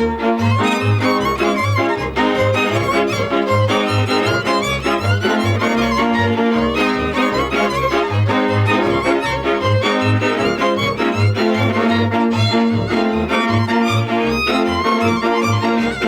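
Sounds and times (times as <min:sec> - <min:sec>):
double bass notes: 0:00.0 - 0:16.0
fiddle melody: 0:00.0 - 0:16.0
string chords: 0:00.0 - 0:16.0.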